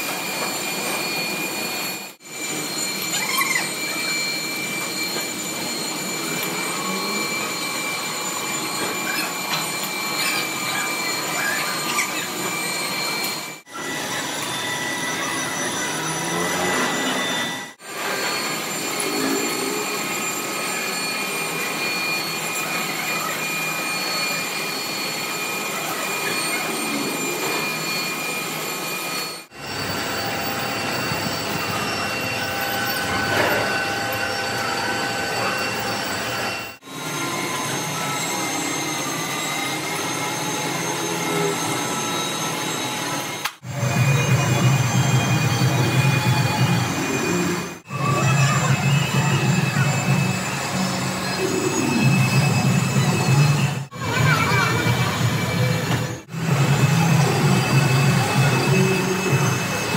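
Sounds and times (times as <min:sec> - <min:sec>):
high steady whining tones: 0:00.0 - 0:59.9
whirring machinery: 0:00.0 - 0:59.9.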